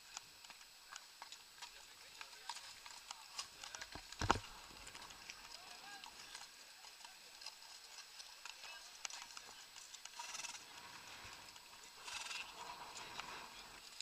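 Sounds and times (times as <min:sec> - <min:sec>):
hooves clip-clopping on gravel: 0:00.0 - 0:14.0.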